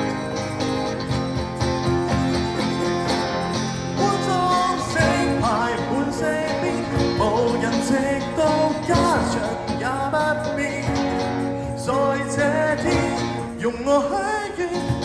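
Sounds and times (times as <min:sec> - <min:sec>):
live band music: 0:00.0 - 0:13.8
bending guitar melody: 0:00.0 - 0:15.0.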